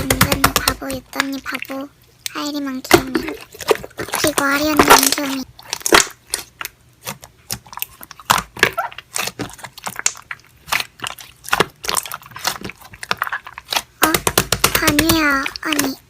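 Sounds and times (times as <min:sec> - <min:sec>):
slime squished by hand: 0:00.0 - 0:16.0.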